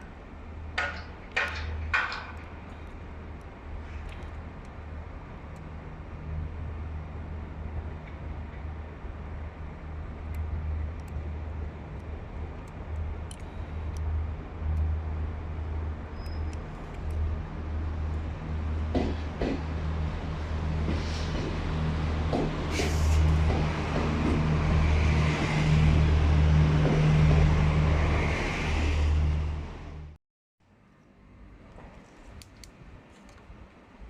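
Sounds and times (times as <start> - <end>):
train engine drone: 0.0 - 34.0.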